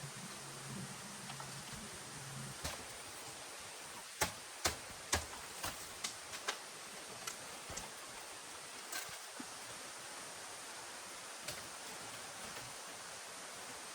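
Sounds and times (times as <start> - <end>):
rain hiss: 0.0 - 13.9.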